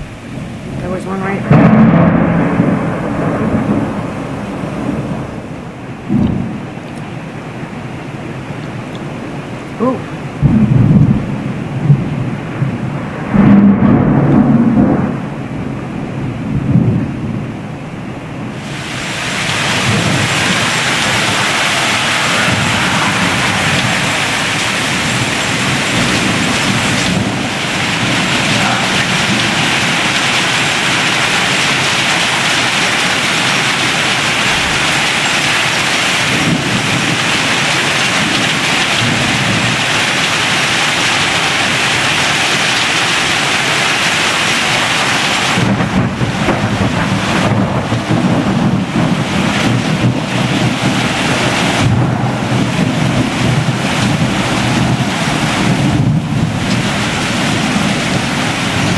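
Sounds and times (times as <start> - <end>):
rain and hail on metal: 0.0 - 7.4, 18.5 - 58.9
wind buffeting microphone: 0.0 - 58.9.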